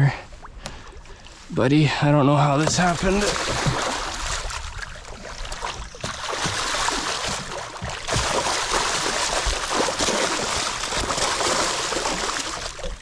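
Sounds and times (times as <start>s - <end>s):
fish thrashing and splashing water: 2.6s - 13.0s.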